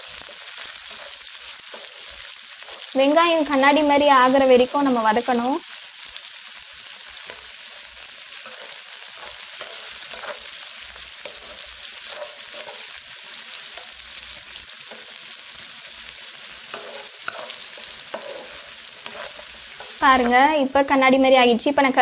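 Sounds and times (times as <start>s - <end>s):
spatula scraping pan: 0.0s - 4.6s, 7.2s - 20.5s
onions sizzling in oil: 0.0s - 22.0s.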